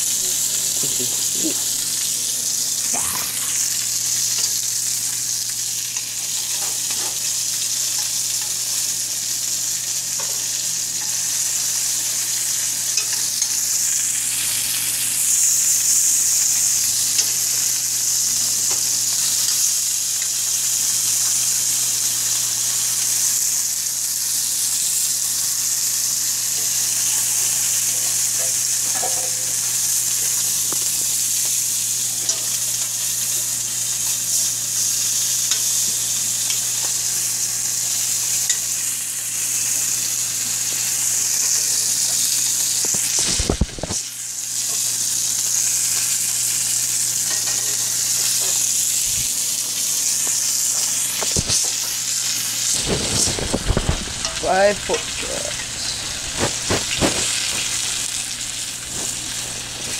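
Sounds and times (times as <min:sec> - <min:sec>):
meat sizzling in a skillet: 0:00.0 - 0:59.9.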